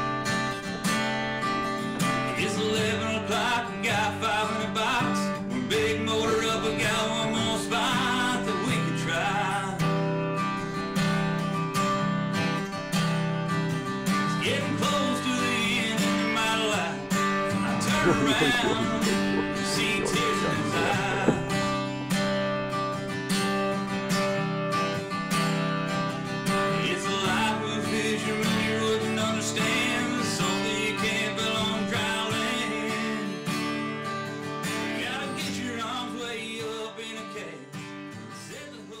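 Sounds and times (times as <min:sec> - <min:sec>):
country song with acoustic guitar: 0:00.0 - 0:39.0.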